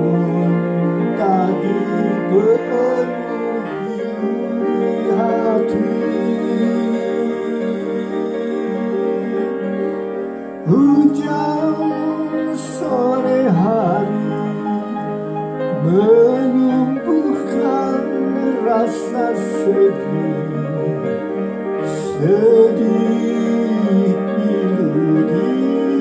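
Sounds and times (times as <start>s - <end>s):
man singing: 0.0s - 9.9s, 10.6s - 26.0s
upright piano playing: 0.0s - 26.0s.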